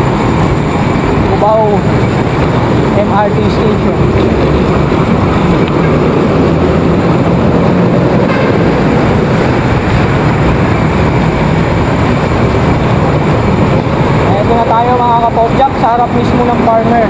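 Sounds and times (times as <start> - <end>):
city traffic: 0.0 - 17.0
road noise: 0.0 - 17.0
wind rushing on microphone: 0.0 - 17.0.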